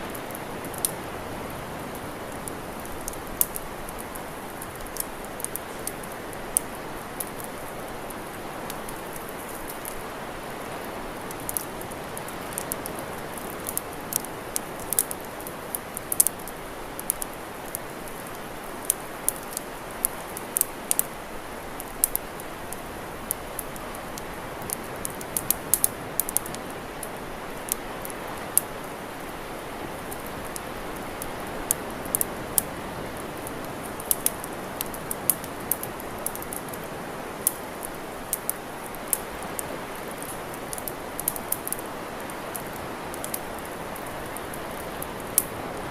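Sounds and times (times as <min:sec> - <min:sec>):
campfire pops and snaps: 0:00.1 - 0:01.0, 0:01.8 - 0:28.7, 0:30.0 - 0:45.6.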